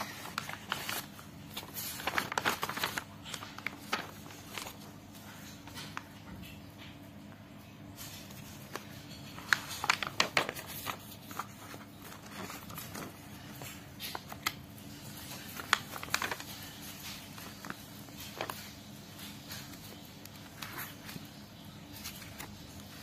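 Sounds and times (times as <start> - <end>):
book pages rustling: 0.0 - 7.0, 7.9 - 23.0.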